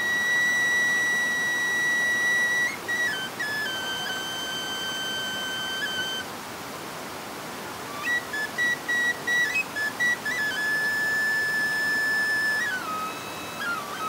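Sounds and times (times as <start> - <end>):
folk flute playing: 0.0 - 6.3, 7.9 - 14.0
steady background hiss: 0.0 - 14.0.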